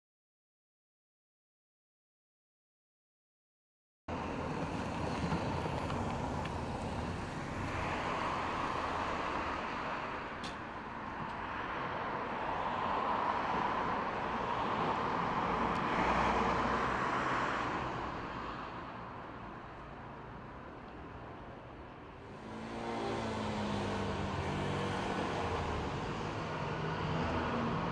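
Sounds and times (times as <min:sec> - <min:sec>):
road traffic passing: 0:04.1 - 0:27.9.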